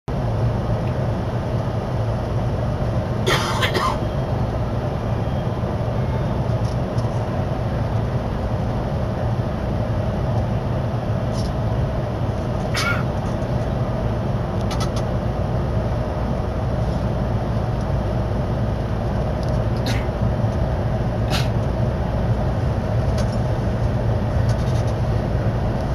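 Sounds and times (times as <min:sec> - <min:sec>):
train rumble and hum: 0:00.1 - 0:25.9.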